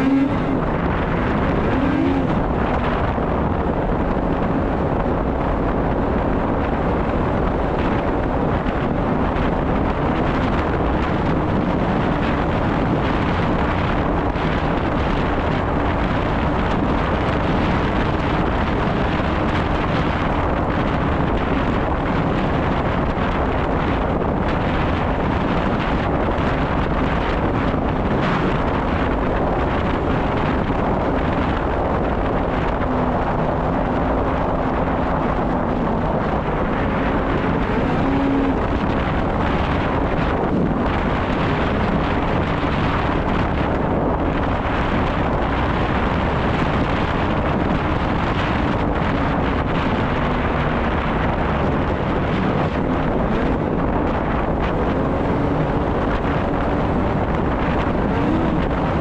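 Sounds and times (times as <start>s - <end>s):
snowmobile engine running: 0.0s - 59.0s
wind on microphone: 0.0s - 59.0s.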